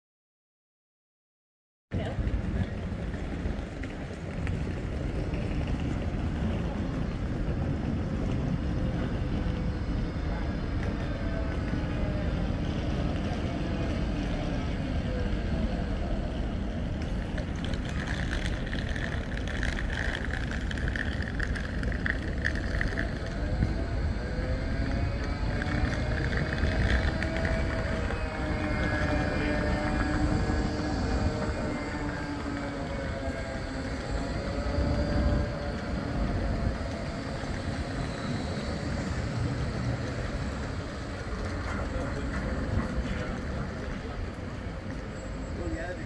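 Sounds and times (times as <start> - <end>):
street traffic rumble: 1.9 - 46.0
tram approaching: 1.9 - 46.0.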